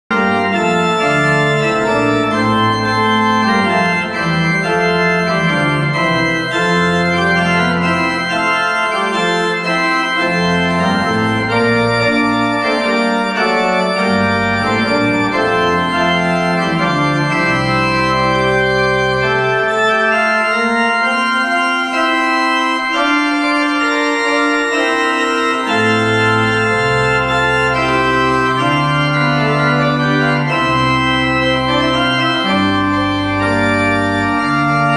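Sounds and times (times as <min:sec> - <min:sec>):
pipe organ playing chords: 0:00.1 - 0:34.9.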